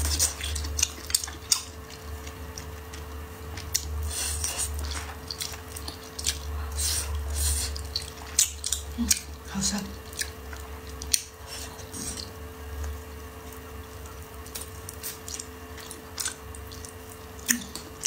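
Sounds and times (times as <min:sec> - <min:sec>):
steady low hum: 0:00.0 - 0:18.0
wet chewing and mouth smacks: 0:00.0 - 0:18.0.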